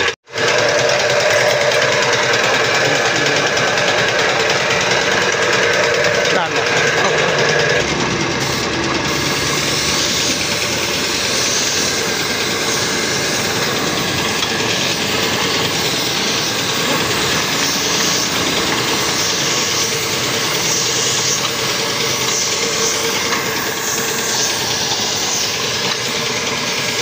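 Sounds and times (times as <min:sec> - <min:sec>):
steady mechanical drone: 0:00.0 - 0:27.0
spray gun hissing: 0:01.9 - 0:27.0.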